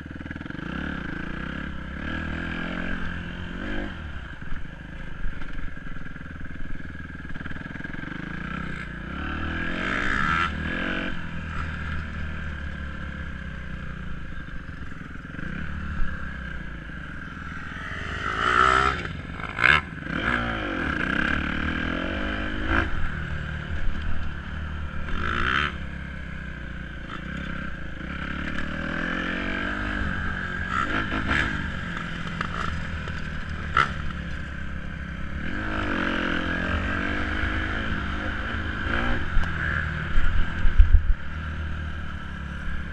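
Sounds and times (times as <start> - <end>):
dirt bike engine revving: 0.2 - 4.5, 7.2 - 42.9.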